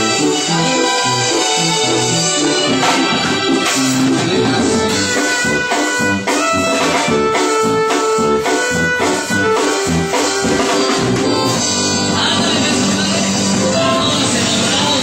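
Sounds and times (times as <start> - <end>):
bass drum beat: 0.0 - 15.0
brass instruments holding notes: 0.0 - 15.0.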